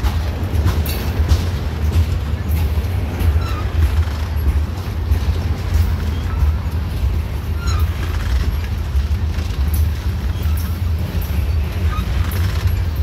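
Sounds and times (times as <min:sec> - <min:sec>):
freight train wheels rumbling: 0:00.0 - 0:13.0
wheels clicking over rail joints: 0:00.0 - 0:13.0.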